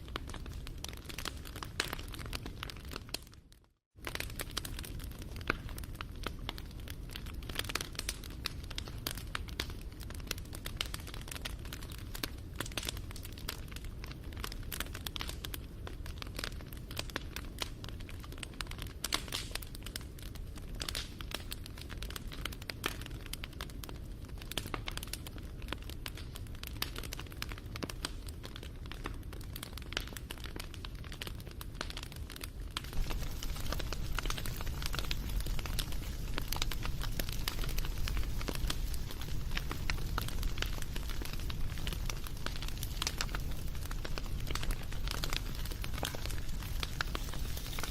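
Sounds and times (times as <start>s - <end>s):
low rumble of burning: 0.0s - 3.4s, 4.0s - 47.9s
wood fire crackling and popping: 0.0s - 47.9s.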